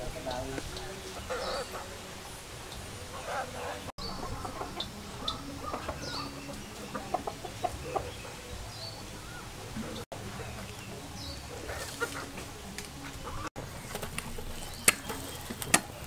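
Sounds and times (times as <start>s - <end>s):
chickens clucking: 0.0s - 16.0s
small birds chirping: 0.0s - 16.0s.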